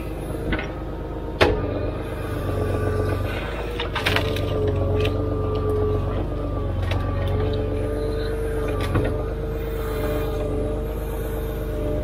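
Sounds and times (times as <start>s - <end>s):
diesel engine running: 0.0s - 12.0s
steady whine: 0.0s - 12.0s.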